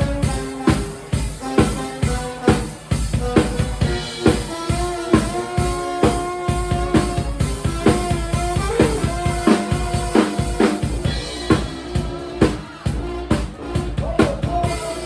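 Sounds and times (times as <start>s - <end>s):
drum kit beat: 0.0s - 15.0s
live band playing: 0.0s - 15.0s.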